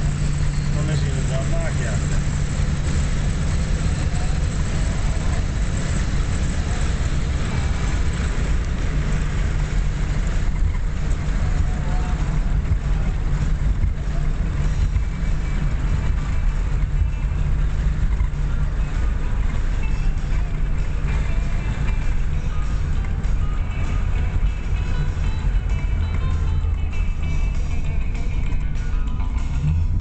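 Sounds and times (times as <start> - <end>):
car engine droning in cabin: 0.0 - 30.0
road and wind rush: 0.0 - 30.0.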